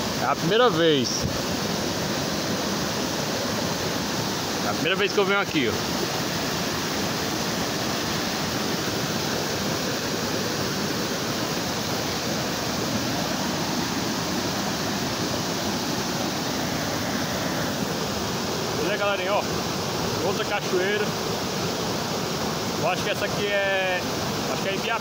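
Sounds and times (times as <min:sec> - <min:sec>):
waterfall rushing into pool: 0:00.0 - 0:25.0.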